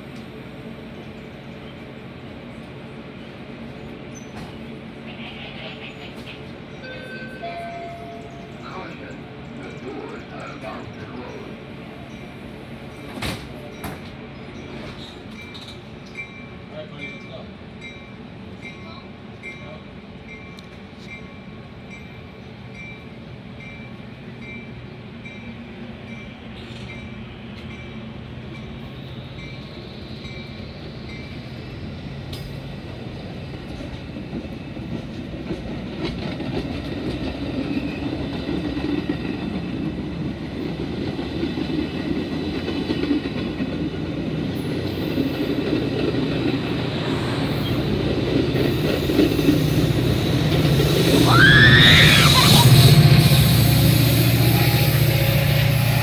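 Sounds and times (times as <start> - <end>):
train rumble and wheel clatter: 0.0 - 56.0.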